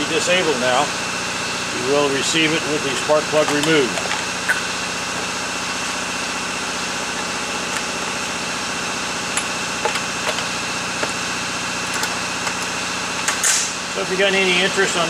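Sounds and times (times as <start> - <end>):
small engine idling: 0.1 - 15.0.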